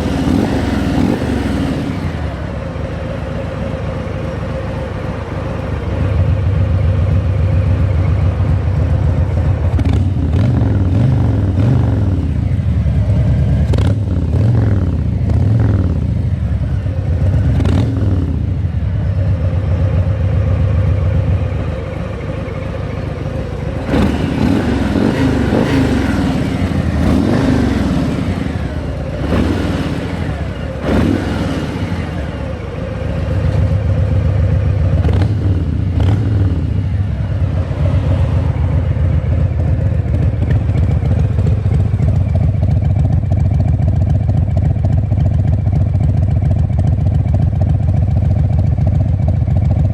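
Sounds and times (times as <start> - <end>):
motorcycle engine revving: 0.0 - 4.0, 5.0 - 49.9.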